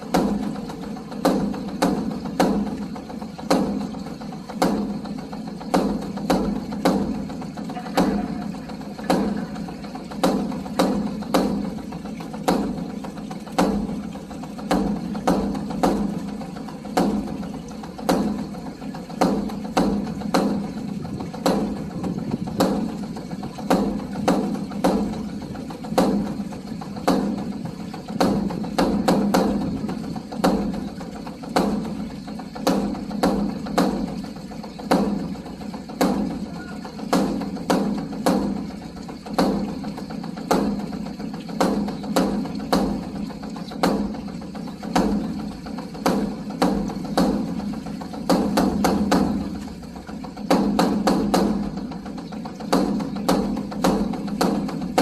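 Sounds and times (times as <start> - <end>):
large barrel drum struck with sticks: 0.0 - 55.0.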